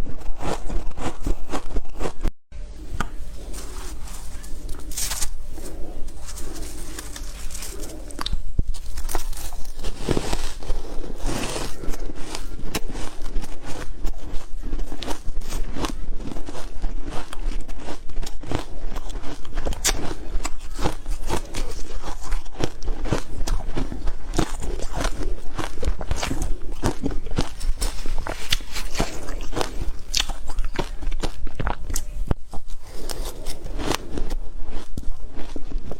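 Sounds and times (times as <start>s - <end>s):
ice being chewed: 3.0s - 35.9s.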